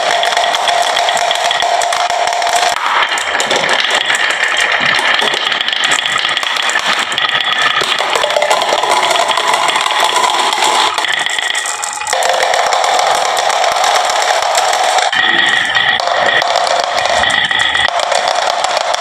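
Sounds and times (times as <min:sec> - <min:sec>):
marbles rolling down wooden run: 0:00.0 - 0:19.0.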